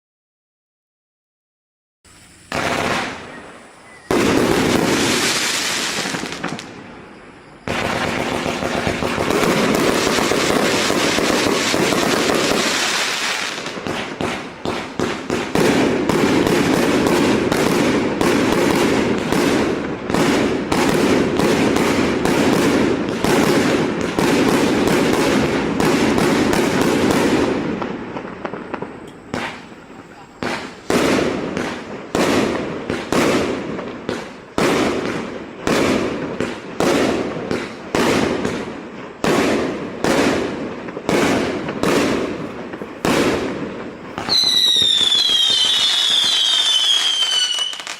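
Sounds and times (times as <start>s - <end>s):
fireworks shells bursting: 2.1s - 47.9s.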